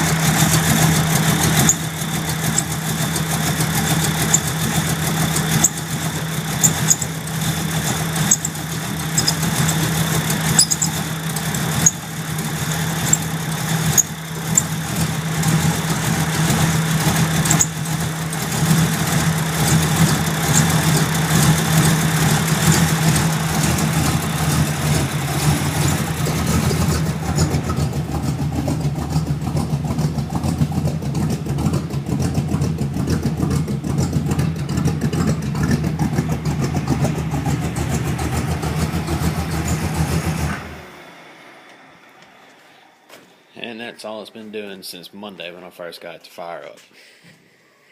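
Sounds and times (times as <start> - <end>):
sharp engine ticks: 0.0 - 40.3
car engine idling roughly: 0.0 - 42.8.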